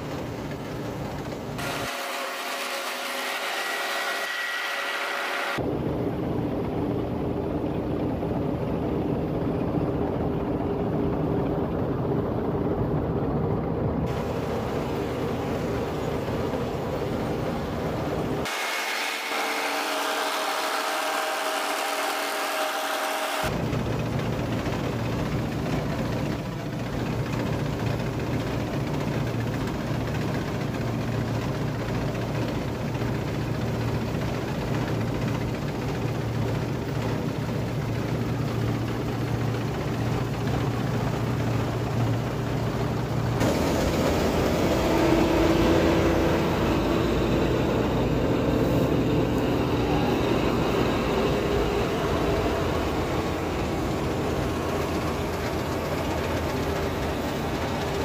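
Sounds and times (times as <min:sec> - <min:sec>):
combine harvester running: 0:00.0 - 0:58.0
steady higher hum: 0:00.0 - 0:58.0.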